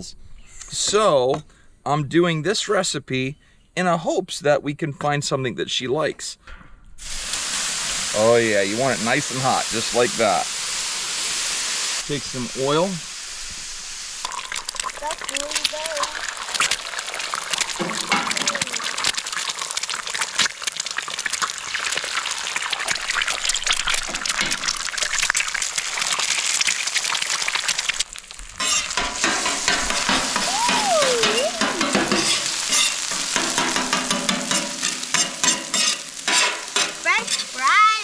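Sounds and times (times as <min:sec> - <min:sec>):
eggs sizzling on a griddle: 0:07.0 - 0:38.0.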